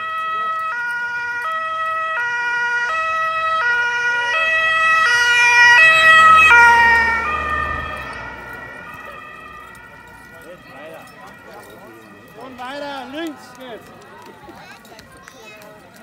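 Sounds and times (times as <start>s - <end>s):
two-tone emergency siren: 0.0s - 14.0s.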